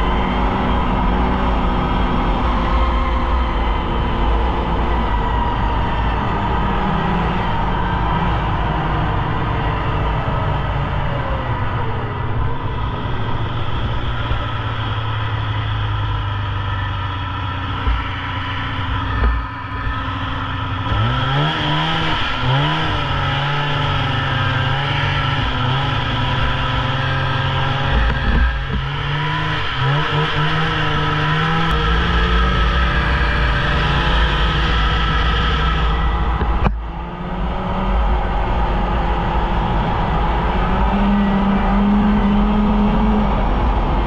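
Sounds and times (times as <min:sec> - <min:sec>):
snowmobile engine revving: 0:00.0 - 0:44.0.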